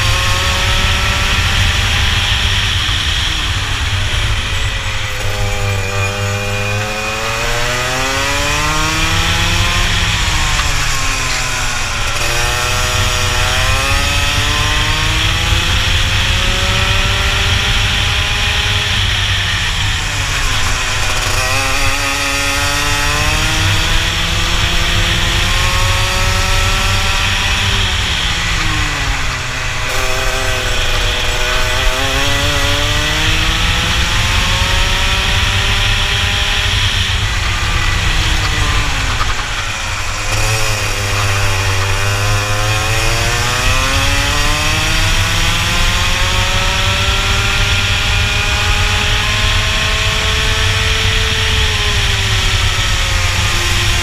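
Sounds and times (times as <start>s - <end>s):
two-stroke kart engine revving: 0.0s - 54.0s.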